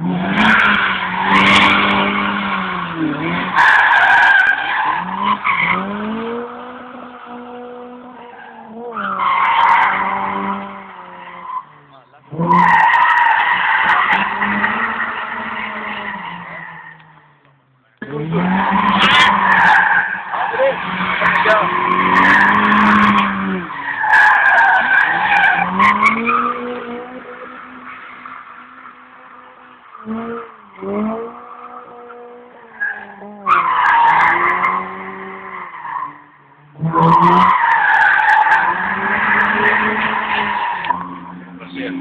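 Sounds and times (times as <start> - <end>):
car engine at high revs: 0.0 - 42.0.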